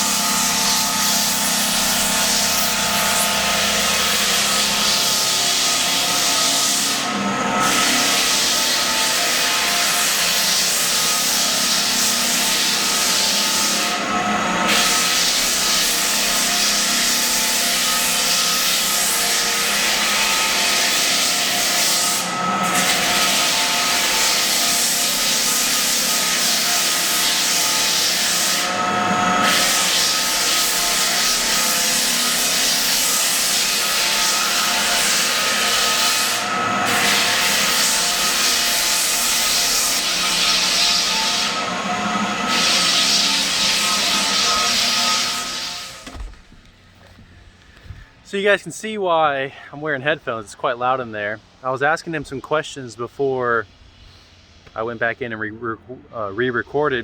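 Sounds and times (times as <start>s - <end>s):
floor sander rasping: 0.0s - 48.2s.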